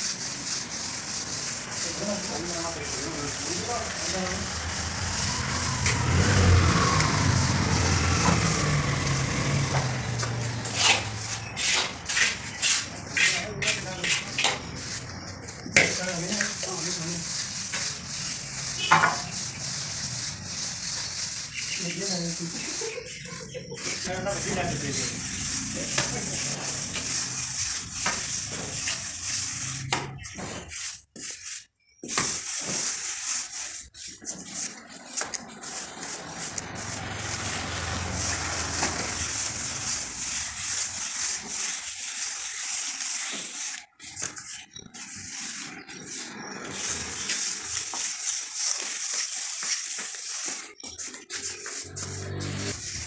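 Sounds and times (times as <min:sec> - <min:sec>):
hand float scraping plaster: 0:00.0 - 0:53.0.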